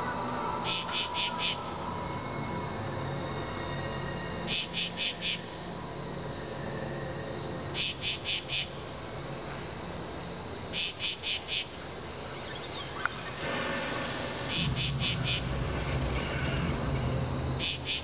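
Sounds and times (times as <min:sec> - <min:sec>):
cricket chirping: 0:00.0 - 0:18.0
steady low hum: 0:00.0 - 0:18.0.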